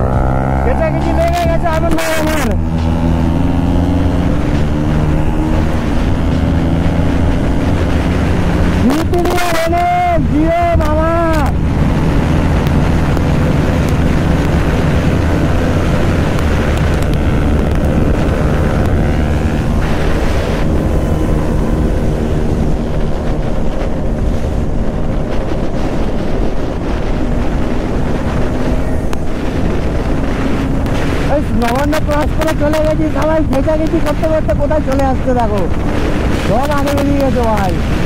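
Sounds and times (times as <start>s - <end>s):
motorcycle engine running: 0.0s - 38.0s
wind rush on microphone: 0.0s - 38.0s.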